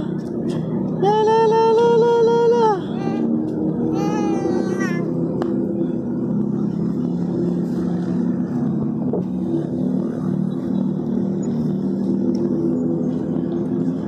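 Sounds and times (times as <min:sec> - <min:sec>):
vehicle engine low hum: 0:00.0 - 0:14.0.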